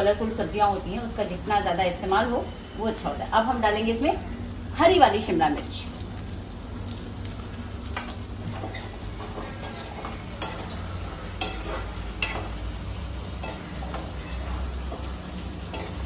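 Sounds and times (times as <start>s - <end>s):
vegetables frying in a pan: 0.0s - 16.0s.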